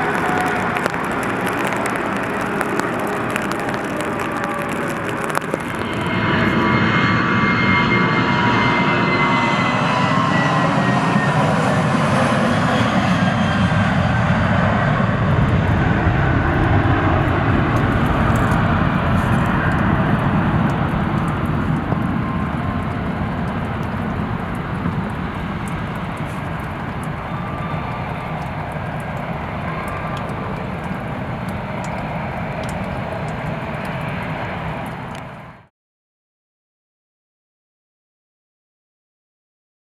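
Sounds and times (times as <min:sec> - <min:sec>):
jet engine whine: 0:00.0 - 0:35.7
jet engines roaring: 0:00.0 - 0:35.7.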